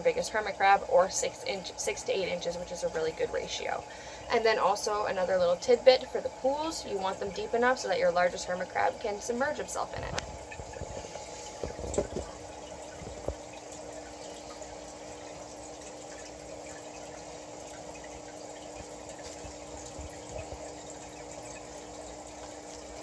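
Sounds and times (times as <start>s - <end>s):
aquarium filter humming: 0.0s - 23.0s
water trickling and bubbling: 0.0s - 23.0s.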